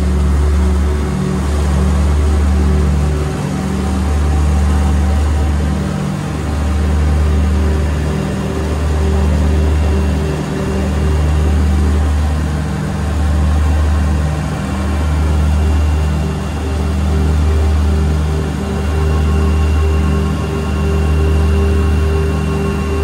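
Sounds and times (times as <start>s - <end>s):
aircraft engines running hard: 0.0s - 23.0s.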